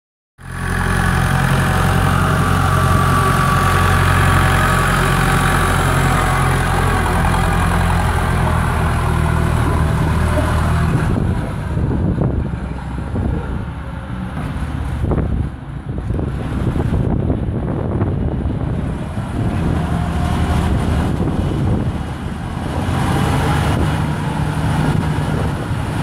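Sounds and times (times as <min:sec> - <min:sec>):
tractor diesel engine running: 0:00.4 - 0:26.0.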